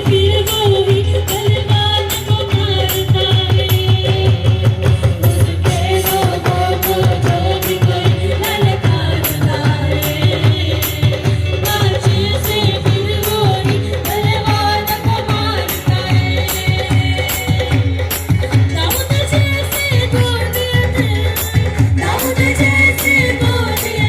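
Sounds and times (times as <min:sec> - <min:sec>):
bass-heavy band: 0:00.0 - 0:24.0.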